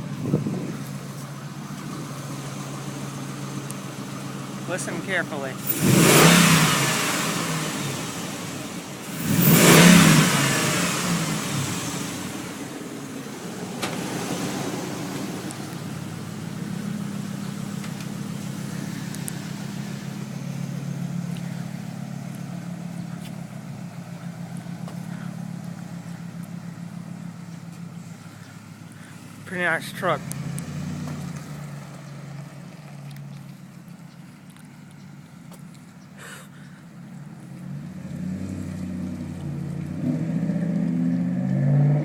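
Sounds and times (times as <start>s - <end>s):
pickup engine revving and idling: 0.0s - 42.0s.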